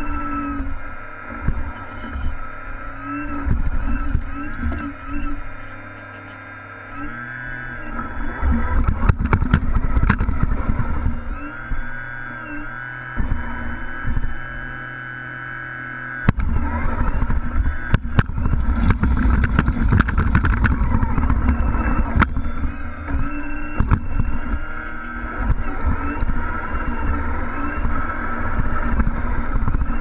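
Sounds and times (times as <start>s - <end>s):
deep rumbling model truck engine: 0.0s - 30.0s
steady hum: 0.0s - 30.0s.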